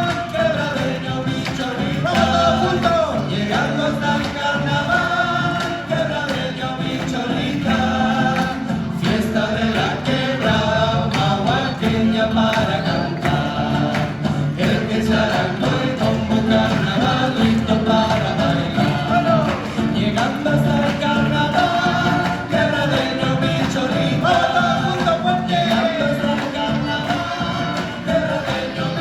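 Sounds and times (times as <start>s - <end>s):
instrumental accompaniment with beat: 0.0s - 29.0s
voices singing folk song together: 0.0s - 29.0s.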